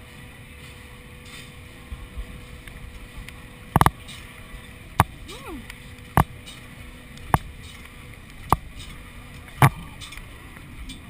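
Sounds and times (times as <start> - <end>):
low rumble of wind and machinery: 0.0 - 11.0.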